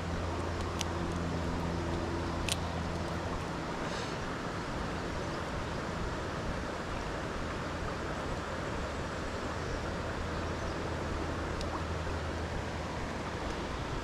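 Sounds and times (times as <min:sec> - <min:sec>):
low hum: 0:00.0 - 0:14.0
stream rushing: 0:00.0 - 0:14.0.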